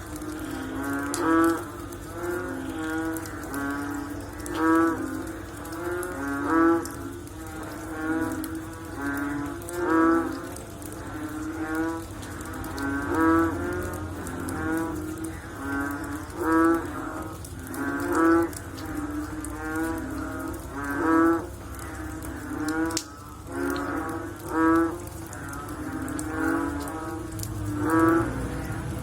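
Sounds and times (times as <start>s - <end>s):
frogs croaking: 0.0s - 29.0s.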